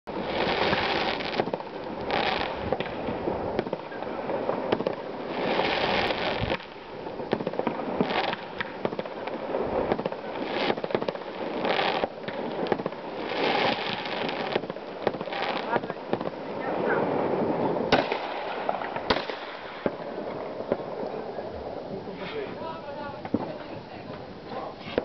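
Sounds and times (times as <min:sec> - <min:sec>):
fireworks bangs and crackling: 0:00.1 - 0:25.0
fireworks hissing bursts: 0:00.1 - 0:25.0.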